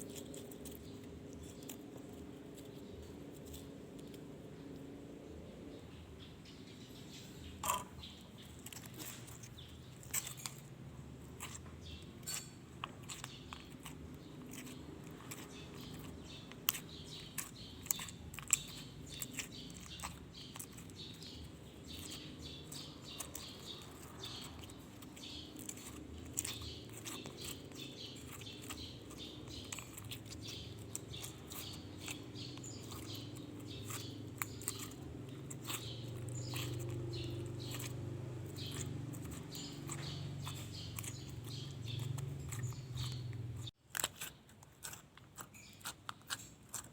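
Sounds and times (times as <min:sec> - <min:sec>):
hands squishing slime: 0:07.6 - 0:46.9.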